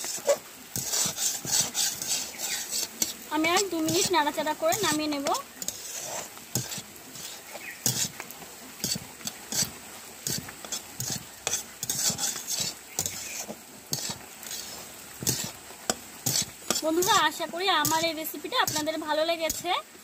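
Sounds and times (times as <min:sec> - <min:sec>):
utensil scraping a pan: 0:00.0 - 0:19.7
faint sizzle: 0:00.0 - 0:20.0.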